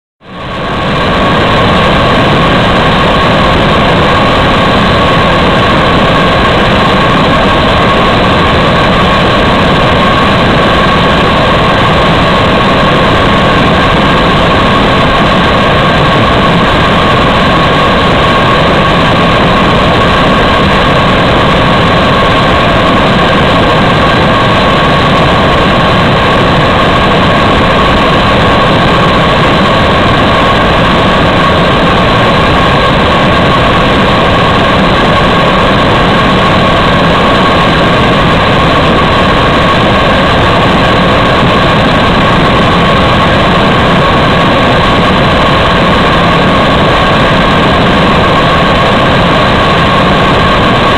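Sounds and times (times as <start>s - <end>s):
rocket engine roaring: 0.2s - 50.9s.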